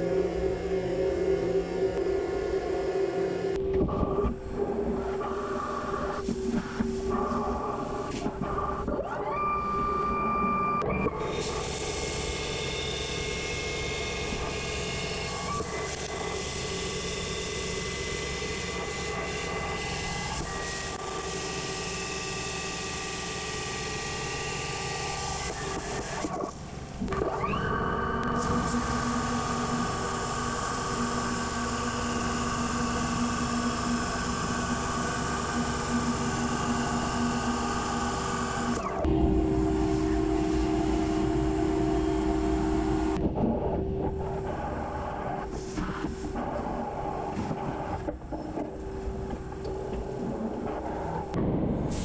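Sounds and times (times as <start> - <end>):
machine spindle whine: 0.0 - 51.6.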